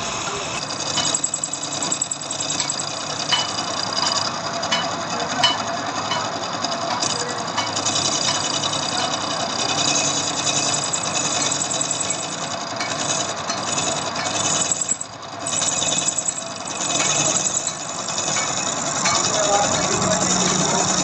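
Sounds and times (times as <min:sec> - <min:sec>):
metal lathe whirring and rattling: 0:00.0 - 0:21.0.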